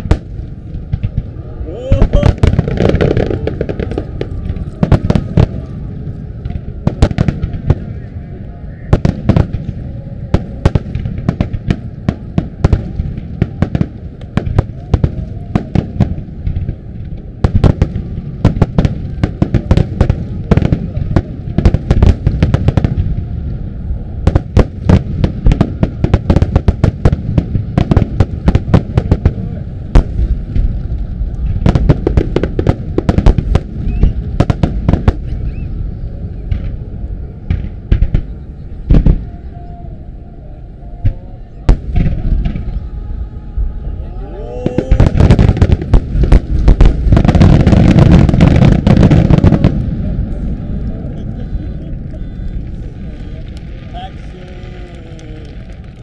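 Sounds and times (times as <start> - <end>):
heavy firework booms: 0.0 - 8.0, 8.9 - 39.2, 41.0 - 42.8, 44.6 - 54.9
low rumble and crackle: 0.0 - 56.0.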